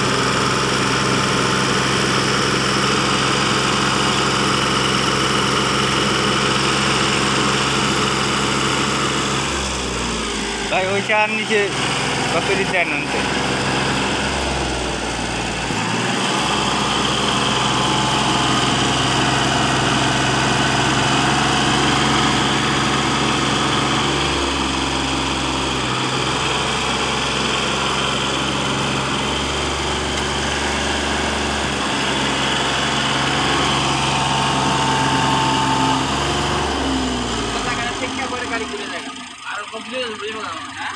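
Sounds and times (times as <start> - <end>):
heavy machinery engine running: 0.0 - 40.9.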